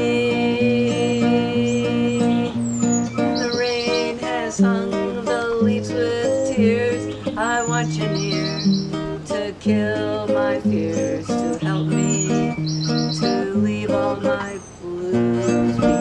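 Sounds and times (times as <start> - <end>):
birds chirping: 0.0 - 16.0
classical guitar fingerpicked: 0.0 - 16.0.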